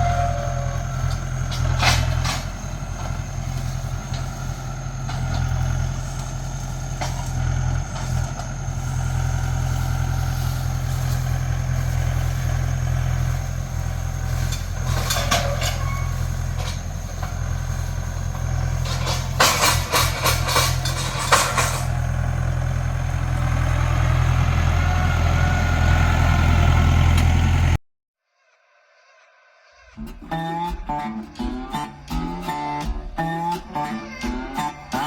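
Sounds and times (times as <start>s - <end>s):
tractor engine running: 0.0s - 27.8s, 30.0s - 35.0s.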